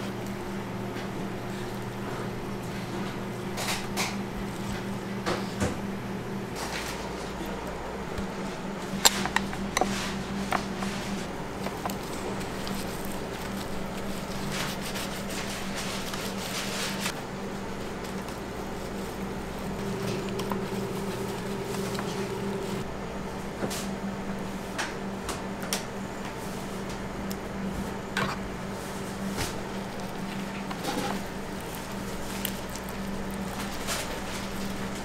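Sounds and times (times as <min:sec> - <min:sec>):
kitchen machinery humming: 0:00.0 - 0:35.0.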